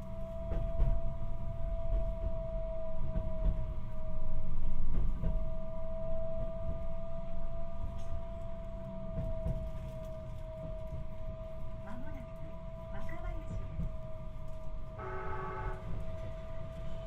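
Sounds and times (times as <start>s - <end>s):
light-rail car whine: 0.0s - 17.0s
rumble of train wheels: 0.0s - 17.0s.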